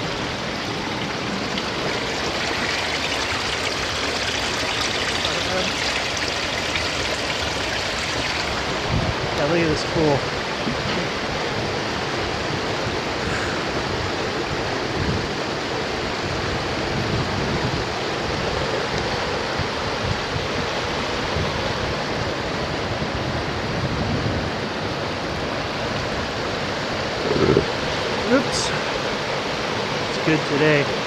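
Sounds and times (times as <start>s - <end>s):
river water rushing over rocks: 0.0s - 23.8s, 24.5s - 31.0s.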